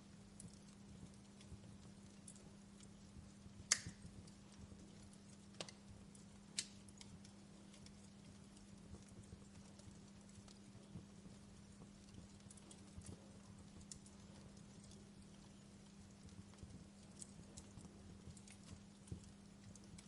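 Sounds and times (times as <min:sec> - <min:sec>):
campfire crackling and popping: 0:00.0 - 0:20.0
faint low hum: 0:00.0 - 0:20.0.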